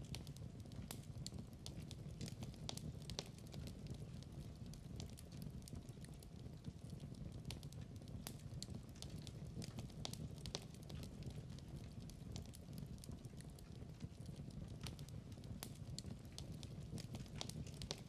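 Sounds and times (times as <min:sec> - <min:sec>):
fireplace crackling: 0:00.0 - 0:18.0
low fire rumble: 0:00.0 - 0:18.0.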